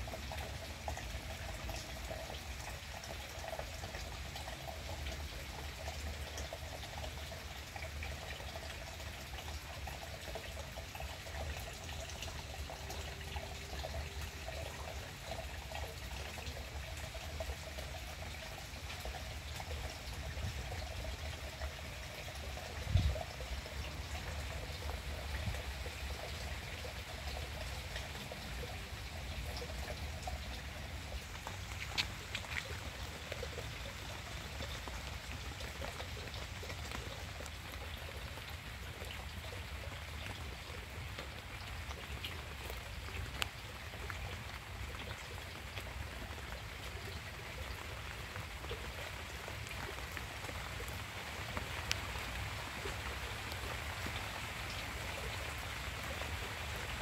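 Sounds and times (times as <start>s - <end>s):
rain on foliage: 0.0s - 57.0s
water drips: 0.0s - 57.0s.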